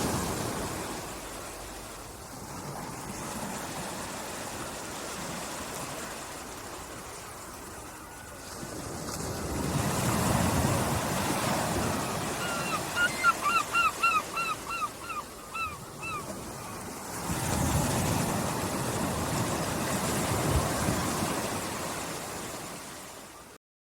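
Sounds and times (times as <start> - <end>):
small waves washing onto beach: 0.0 - 23.6.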